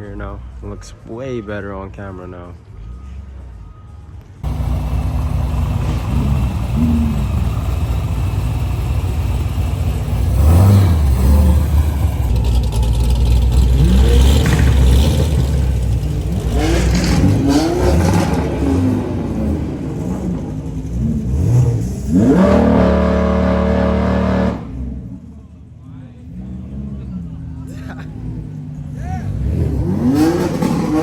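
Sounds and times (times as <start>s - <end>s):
car engine revving: 4.4s - 31.0s.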